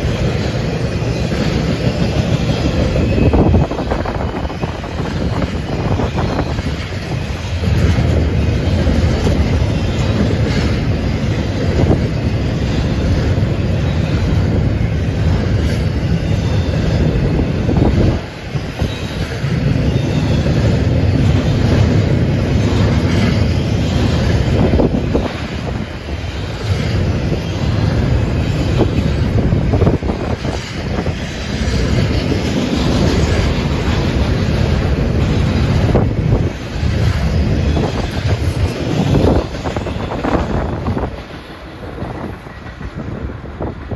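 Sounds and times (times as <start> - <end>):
freight train rumbling on rails: 0.0 - 43.9
wind buffeting microphone: 0.0 - 43.9.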